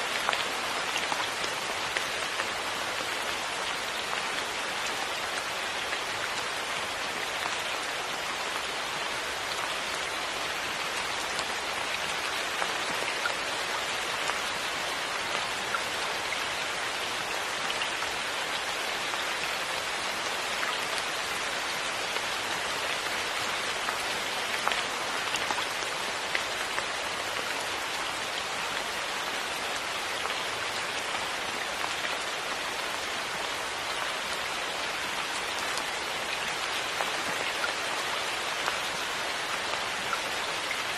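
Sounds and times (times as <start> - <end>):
raindrops pattering: 0.0 - 40.9
steady rain hiss: 0.0 - 40.9.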